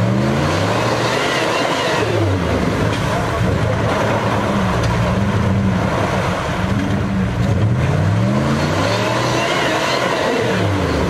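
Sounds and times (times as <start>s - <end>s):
off-road vehicle engine revving: 0.0s - 11.0s
steady noisy wash: 0.4s - 11.0s.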